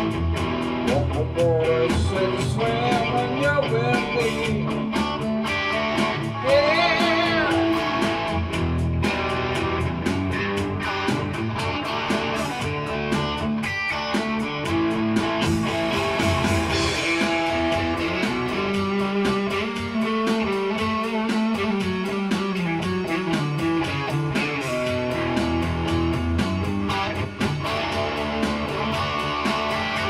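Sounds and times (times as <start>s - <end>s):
electric guitar through amplifier: 0.0s - 30.0s
rock drum beat: 0.0s - 30.0s.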